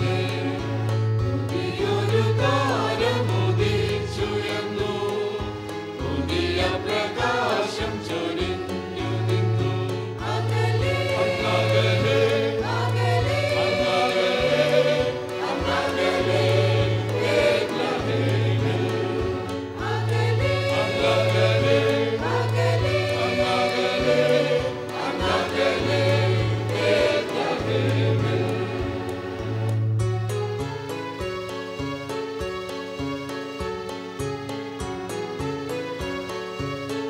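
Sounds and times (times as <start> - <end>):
mixed choir singing: 0.0 - 29.8.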